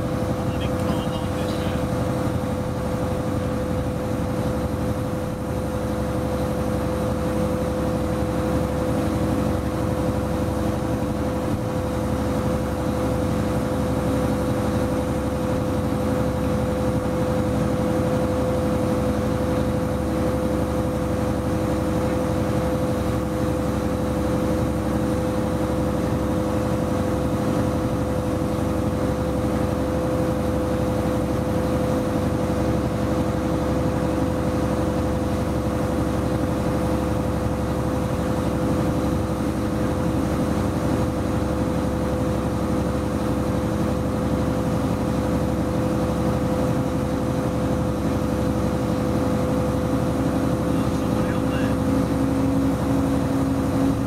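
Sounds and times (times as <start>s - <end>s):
diesel railcar engine drone: 0.0s - 54.0s.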